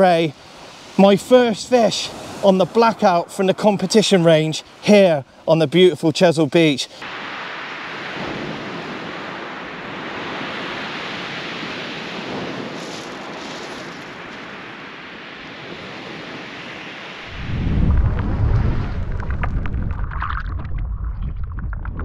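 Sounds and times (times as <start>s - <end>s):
surf washing on a shingle beach: 0.0s - 19.5s.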